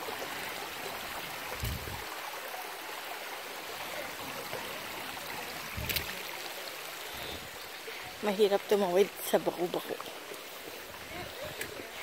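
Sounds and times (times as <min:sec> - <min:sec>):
creek water trickling over rocks: 0:00.0 - 0:12.0.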